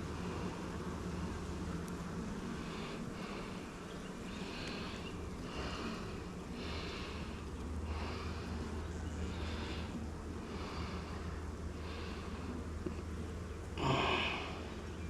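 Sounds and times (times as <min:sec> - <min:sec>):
honeybees buzzing: 0:00.0 - 0:15.0
person breathing close: 0:02.3 - 0:13.2, 0:13.8 - 0:14.9.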